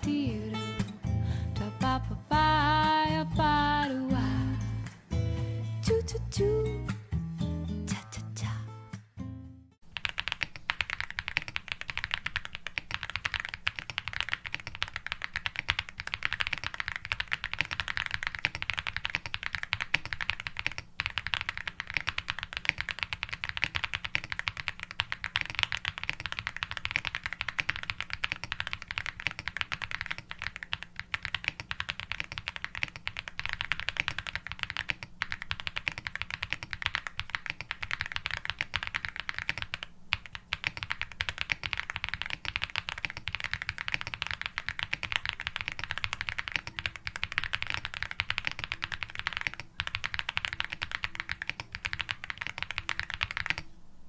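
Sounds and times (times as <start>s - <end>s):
mechanical keyboard typing: 9.8s - 53.7s.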